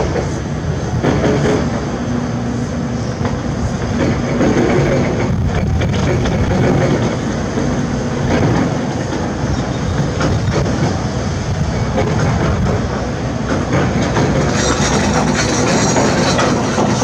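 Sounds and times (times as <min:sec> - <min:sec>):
clattering knocks and rattles: 0:00.0 - 0:02.0, 0:03.2 - 0:17.0
diesel engine running: 0:00.0 - 0:17.0.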